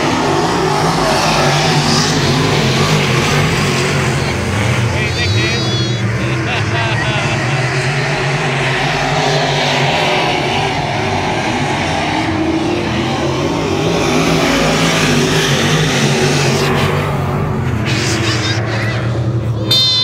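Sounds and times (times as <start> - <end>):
race car engines at speed: 0.0 - 20.0.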